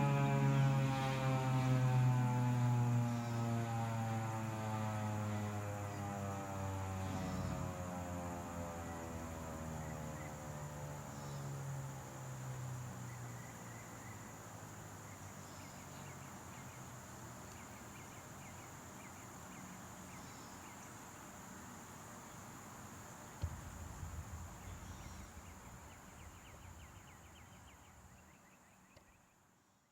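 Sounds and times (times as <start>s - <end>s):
insects buzzing and chirping: 0.0s - 29.9s.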